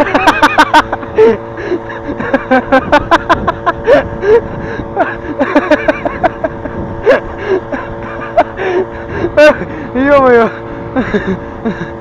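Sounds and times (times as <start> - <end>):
people yelping and laughing: 0.0 - 9.7
steady motor hum: 0.0 - 12.0.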